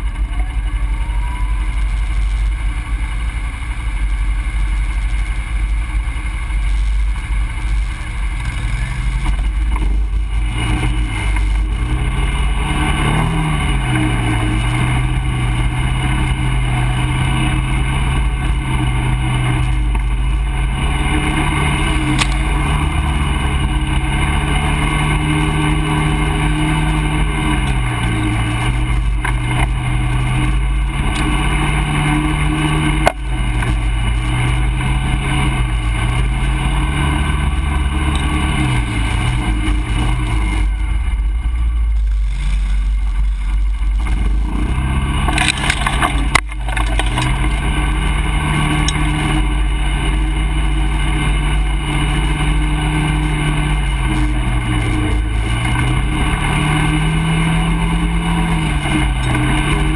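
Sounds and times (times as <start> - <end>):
atv engine running: 0.0 - 59.9
heavy low rumble: 0.0 - 59.9.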